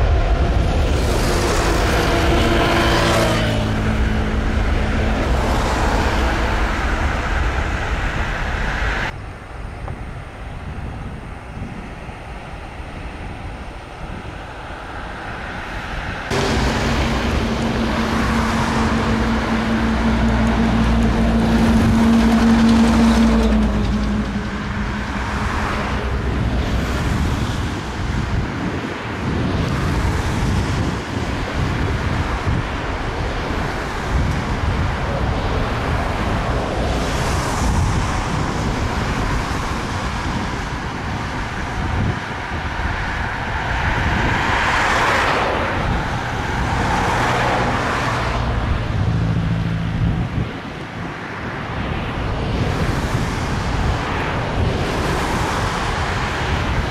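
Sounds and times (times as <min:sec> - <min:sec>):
jet airliner engines running: 0:00.0 - 0:56.9.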